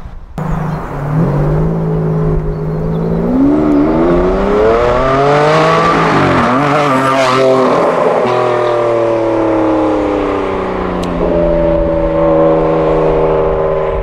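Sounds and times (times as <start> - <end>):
sports car engine accelerating: 0.4 - 14.0.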